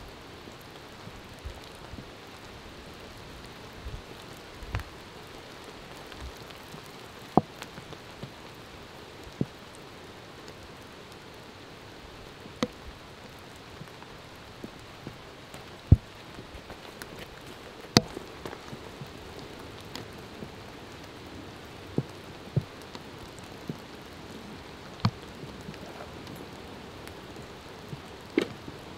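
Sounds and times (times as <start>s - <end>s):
steady rain in woodland: 0.0s - 28.9s.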